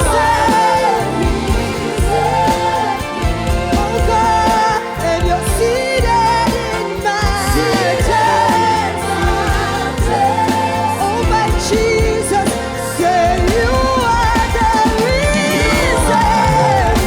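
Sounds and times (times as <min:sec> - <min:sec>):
person singing: 0:00.0 - 0:17.0
worship band playing: 0:00.0 - 0:17.0.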